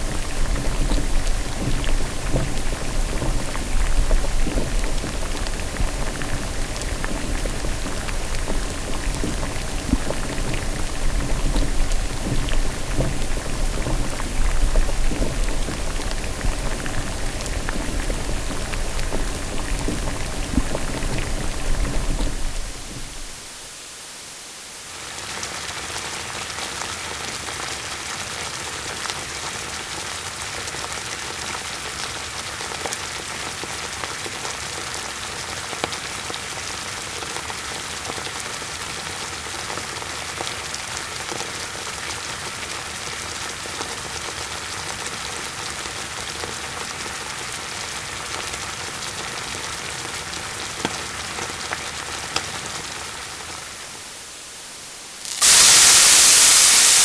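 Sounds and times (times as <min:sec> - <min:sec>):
food frying in hot oil: 0:00.0 - 0:23.7, 0:24.6 - 0:53.8, 0:55.1 - 0:57.0.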